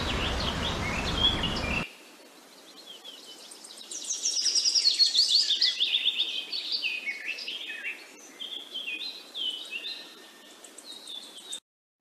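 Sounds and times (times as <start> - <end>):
background hiss: 0.0 - 11.6
birds chirping: 0.0 - 11.6.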